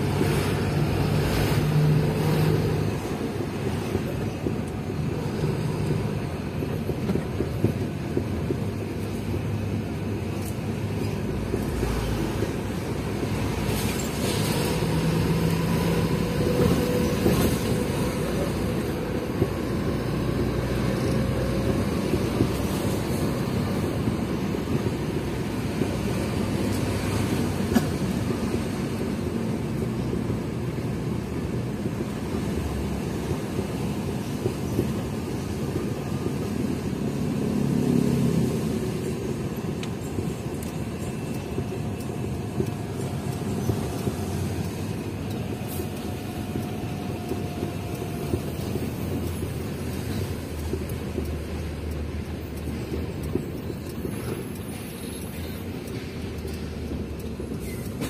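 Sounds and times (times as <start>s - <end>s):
diesel truck engine drone: 0.0s - 58.0s
road rumble: 0.0s - 58.0s.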